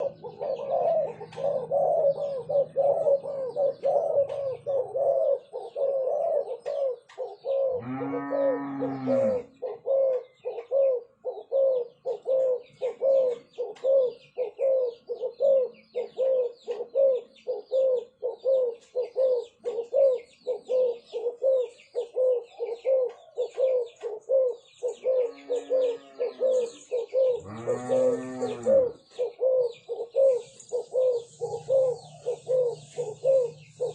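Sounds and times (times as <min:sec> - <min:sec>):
doves cooing: 0:00.0 - 0:33.9
small birds chirping: 0:00.0 - 0:33.9.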